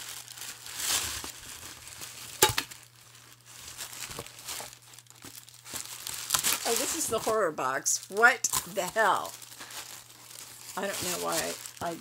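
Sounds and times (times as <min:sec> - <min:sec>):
packing wrap rustling and crinkling: 0:00.0 - 0:12.0.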